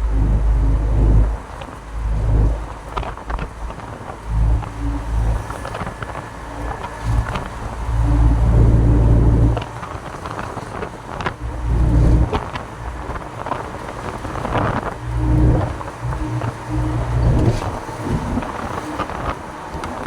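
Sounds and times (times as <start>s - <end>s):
low rumbling: 0.0s - 20.0s
truck engine and road noise: 0.0s - 20.0s.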